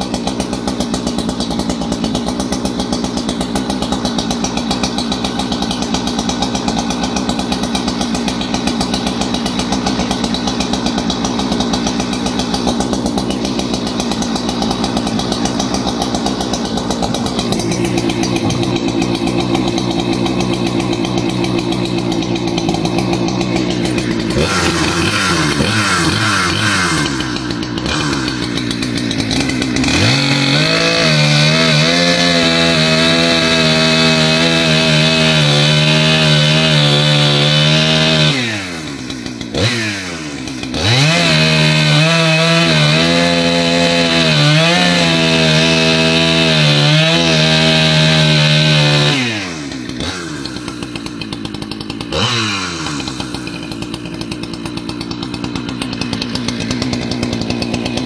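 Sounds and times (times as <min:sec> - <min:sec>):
chainsaw cutting through log: 0:00.0 - 0:58.0
chainsaw running: 0:00.0 - 0:58.0.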